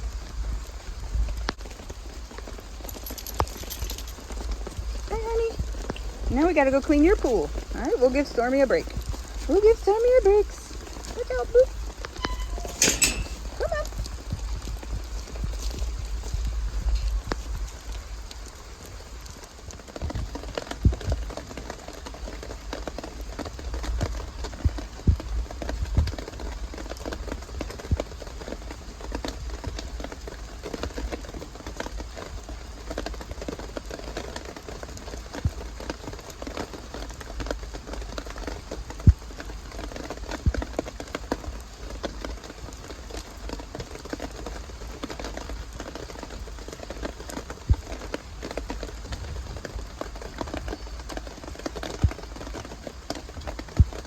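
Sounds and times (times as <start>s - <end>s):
rain falling and dripping: 0.0s - 54.0s.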